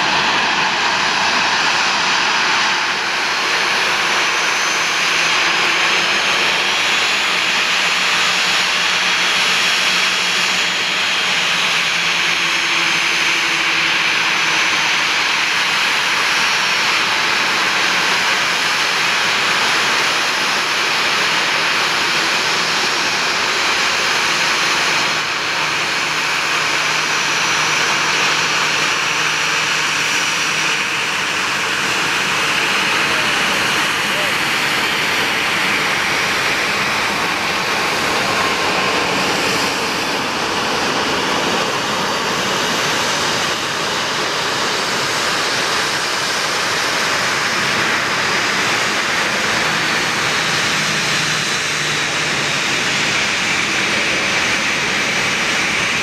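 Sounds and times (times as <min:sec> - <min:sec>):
jet engines at takeoff thrust: 0:00.0 - 0:56.0.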